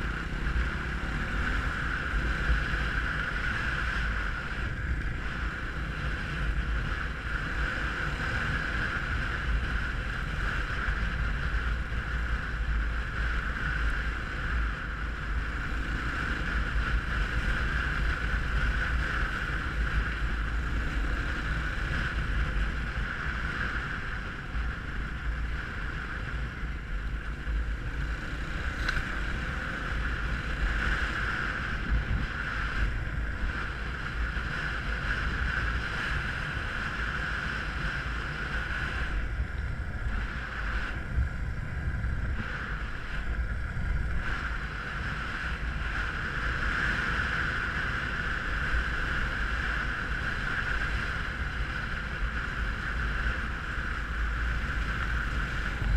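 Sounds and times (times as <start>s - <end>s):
dirt bike engine running: 0.0s - 55.9s
wind buffeting microphone: 0.0s - 55.9s.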